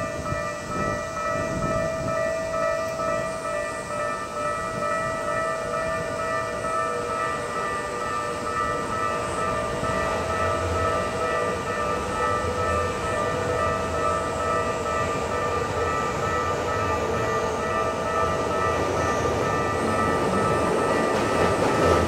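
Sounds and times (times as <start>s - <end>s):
level crossing warning bell: 0.0s - 22.0s
train rumble: 0.0s - 22.0s.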